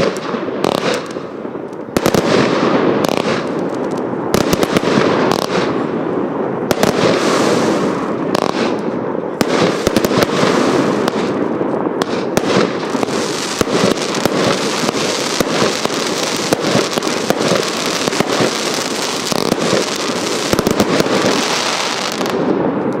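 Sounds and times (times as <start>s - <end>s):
firework barrage of rapid shots: 0.0s - 23.0s.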